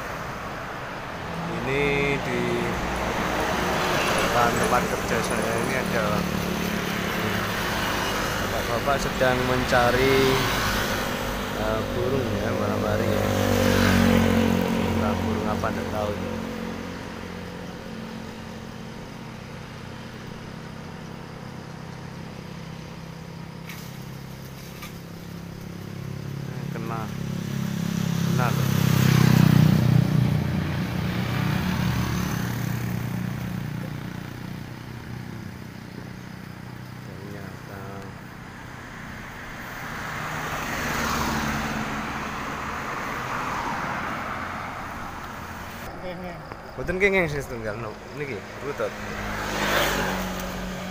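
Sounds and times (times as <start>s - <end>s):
outdoor background noise: 0.0s - 50.9s
motor vehicle driving past: 1.0s - 50.9s.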